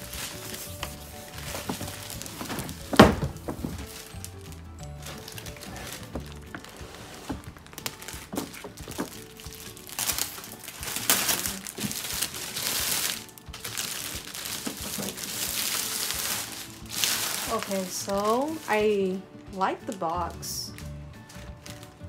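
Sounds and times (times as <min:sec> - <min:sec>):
plastic wrap crinkling: 0:00.0 - 0:22.0.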